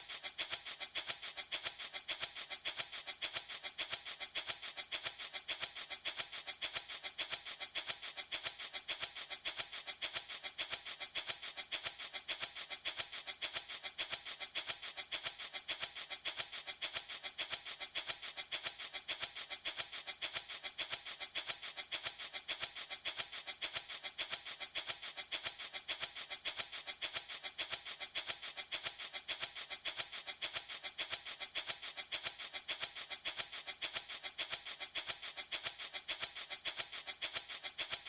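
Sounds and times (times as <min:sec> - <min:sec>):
baby rattle shaken: 0:00.0 - 0:38.0.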